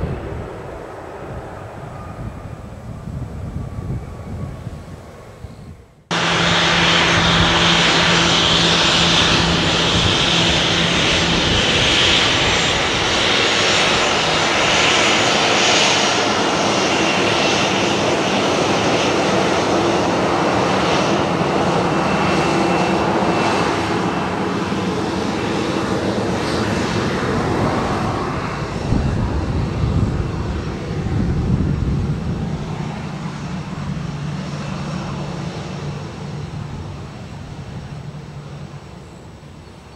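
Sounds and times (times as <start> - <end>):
jet engines whining while taxiing: 0.0 - 39.9.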